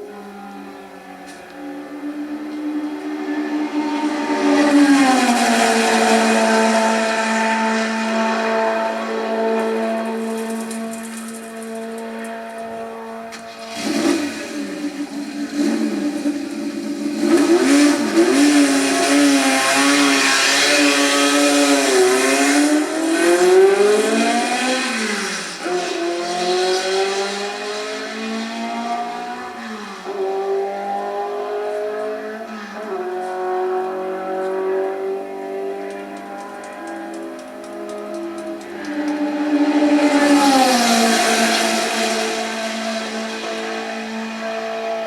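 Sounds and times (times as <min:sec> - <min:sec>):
race car engine revving: 0:00.0 - 0:45.0.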